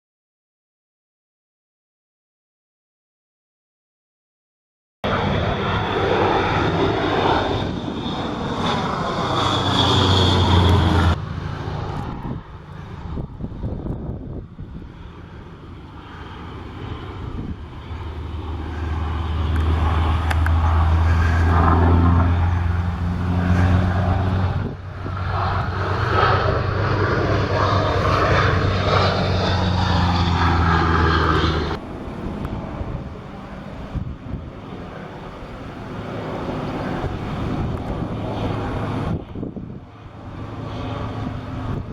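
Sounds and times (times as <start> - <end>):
propeller plane engine droning: 5.0 - 41.9.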